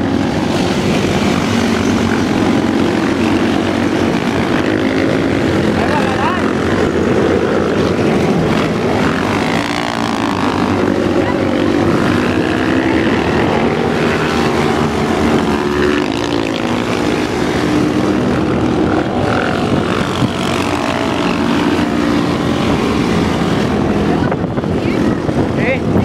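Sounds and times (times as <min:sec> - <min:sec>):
motorcycles riding past: 0:00.0 - 0:26.0.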